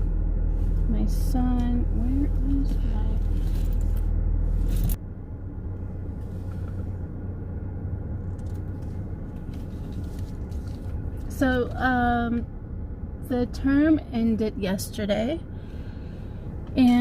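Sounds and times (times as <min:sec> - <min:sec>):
car engine hum from inside: 0:00.0 - 0:17.0.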